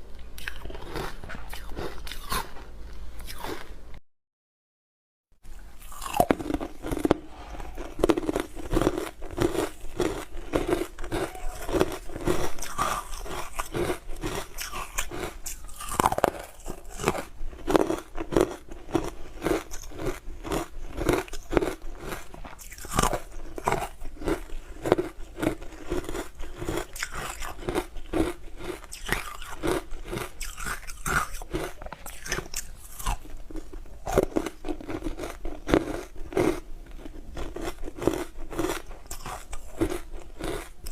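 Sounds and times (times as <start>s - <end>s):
chewing hard ice crunches: 0.4s - 2.6s, 5.8s - 40.9s.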